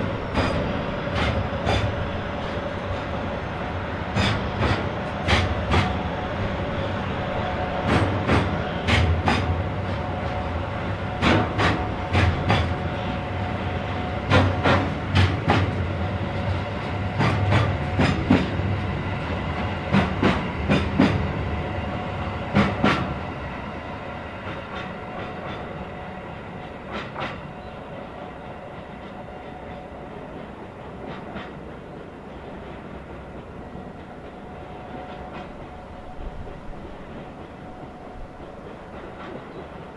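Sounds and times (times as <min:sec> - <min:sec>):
train wheels clicking over rail joints: 0:00.0 - 0:21.6, 0:22.5 - 0:23.3, 0:24.4 - 0:25.9, 0:26.5 - 0:27.8, 0:28.8 - 0:39.9
freight train rumble: 0:00.0 - 0:39.9.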